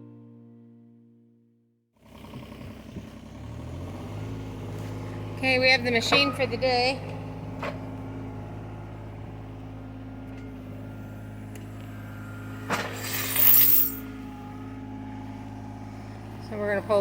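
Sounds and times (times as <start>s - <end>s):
excavator engine idling: 2.0s - 13.3s, 14.0s - 17.0s.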